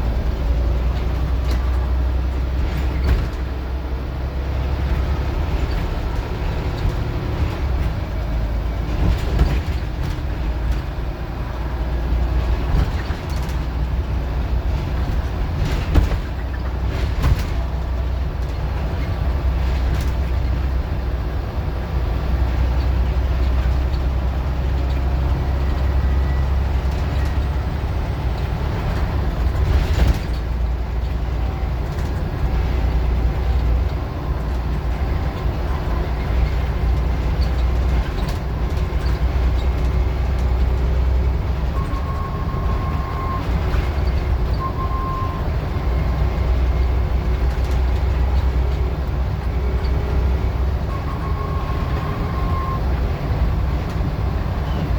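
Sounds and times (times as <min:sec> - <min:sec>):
bus diesel engine droning: 0:00.0 - 0:54.9.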